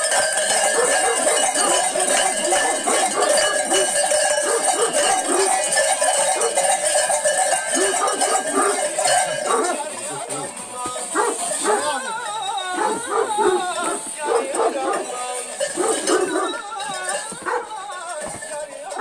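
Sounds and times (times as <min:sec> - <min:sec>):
metal bells jangling: 0:00.0 - 0:19.0.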